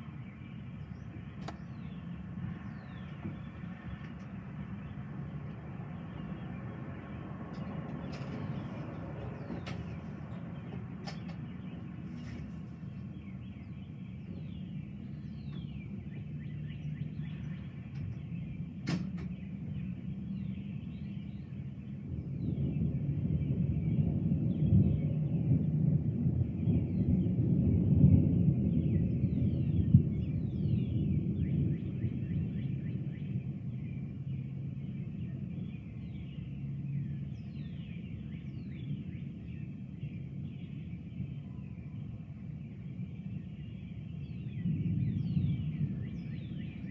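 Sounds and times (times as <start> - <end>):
birds chirping: 0.0 - 25.4, 28.8 - 46.9
low rumble: 0.0 - 46.9.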